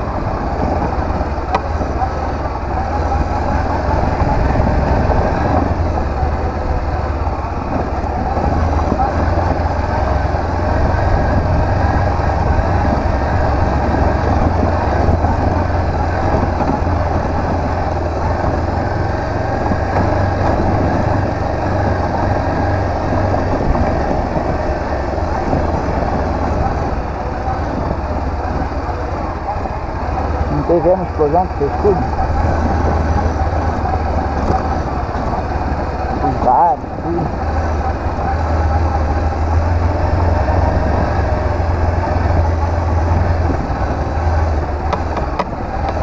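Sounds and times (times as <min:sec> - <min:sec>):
motorcycle engine running: 0:00.0 - 0:46.0
road noise: 0:00.0 - 0:46.0
wind noise: 0:00.0 - 0:46.0.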